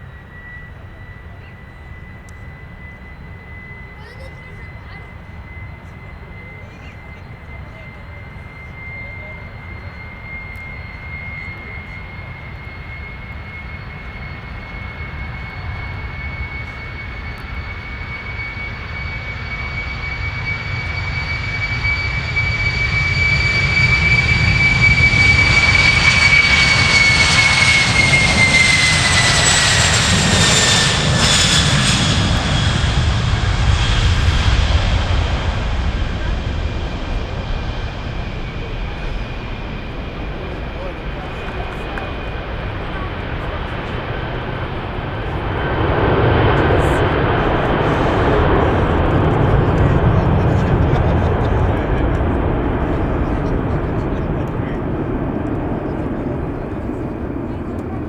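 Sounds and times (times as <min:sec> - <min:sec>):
jet engines at takeoff power: 0:00.0 - 0:58.0.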